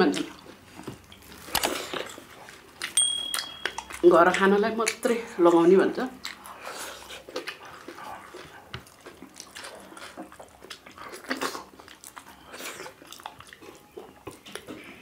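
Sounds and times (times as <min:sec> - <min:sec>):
close chewing and biting: 0:00.0 - 0:15.0.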